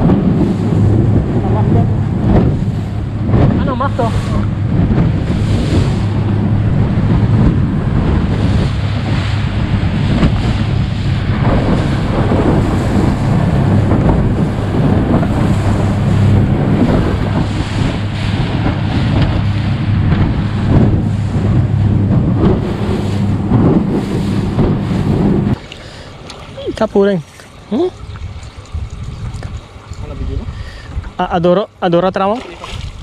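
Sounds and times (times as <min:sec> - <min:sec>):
hull slapping through waves: 0:00.0 - 0:31.2, 0:32.2 - 0:33.0
outboard motor running: 0:00.0 - 0:31.7
wind buffeting microphone: 0:00.0 - 0:33.0.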